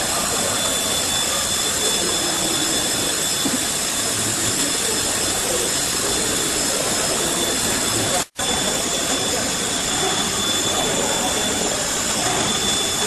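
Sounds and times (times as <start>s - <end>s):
cnc machine whining hiss: 0.0s - 13.0s.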